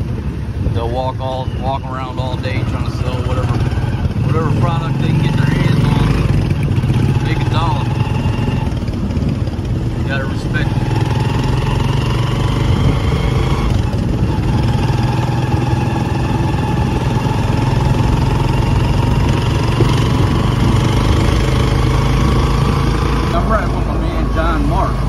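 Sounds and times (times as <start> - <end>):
small motorcycle engine running: 1.6 - 25.0.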